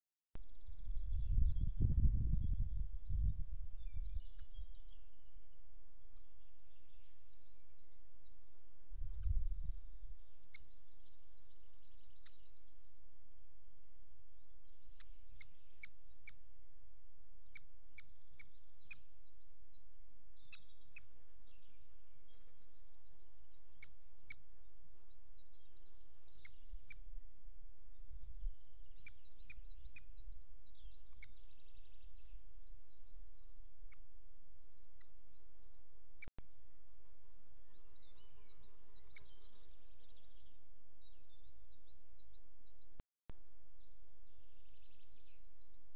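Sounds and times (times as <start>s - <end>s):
small birds singing and chirping: 0.4s - 45.9s.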